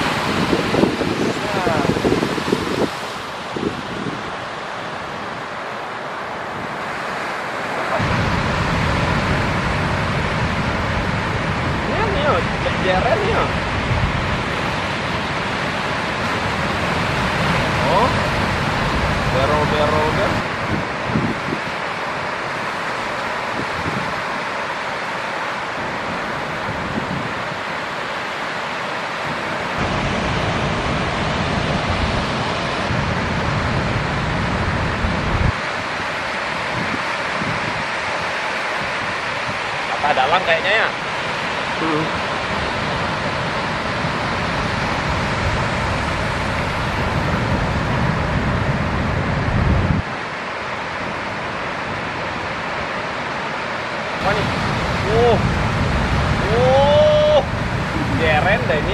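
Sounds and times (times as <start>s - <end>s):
wind rumble on microphone: 0.0s - 24.6s, 25.2s - 28.6s, 29.2s - 58.9s
ocean surf washing: 0.0s - 58.9s.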